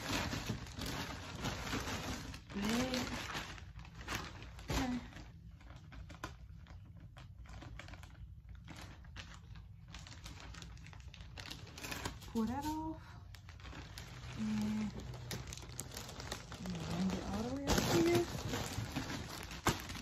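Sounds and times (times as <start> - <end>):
plastic mailer bag rustling: 0.0 - 20.0.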